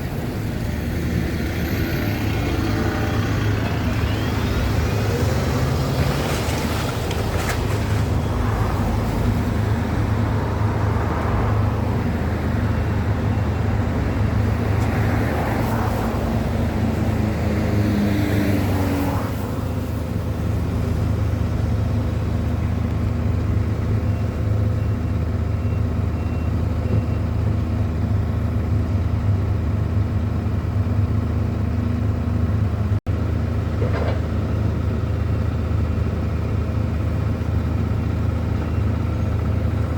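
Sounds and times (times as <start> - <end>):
traffic engine hum: 0.0 - 39.9
vehicles passing: 0.0 - 39.9.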